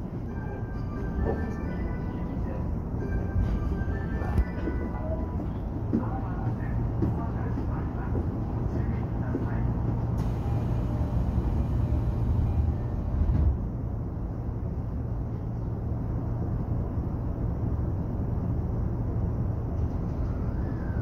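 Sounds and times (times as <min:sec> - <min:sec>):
train wheels rumbling on rails: 0:03.4 - 0:21.0.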